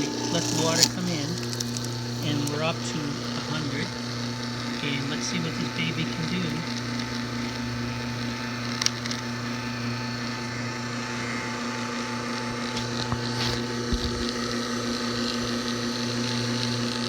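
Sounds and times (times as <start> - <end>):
motor driving water pump: 0.0 - 17.0.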